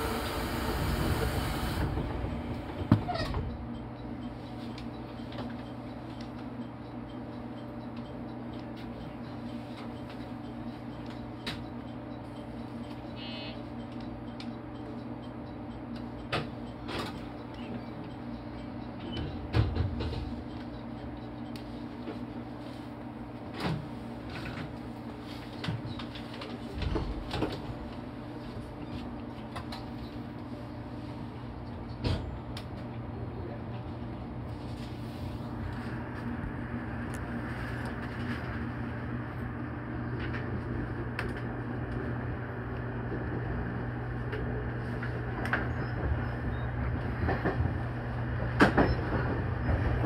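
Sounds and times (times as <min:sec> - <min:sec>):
train low hum: 0:00.0 - 0:50.0.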